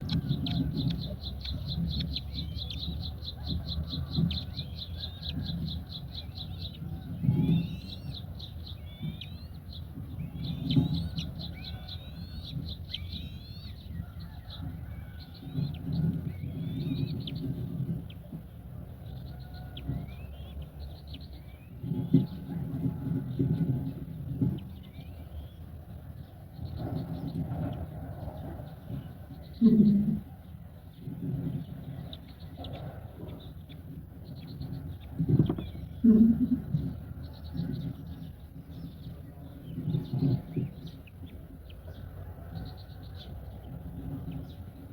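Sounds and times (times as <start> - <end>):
low rumble: 0.0 - 44.9
small birds chirping: 0.0 - 44.9.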